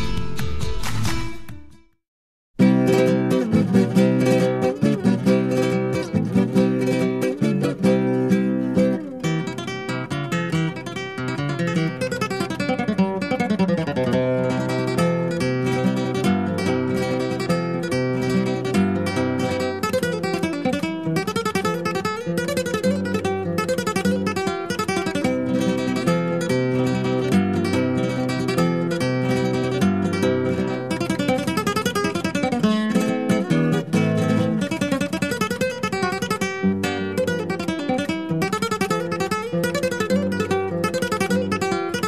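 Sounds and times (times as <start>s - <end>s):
acoustic guitar music: 0.0s - 2.0s, 2.6s - 42.0s.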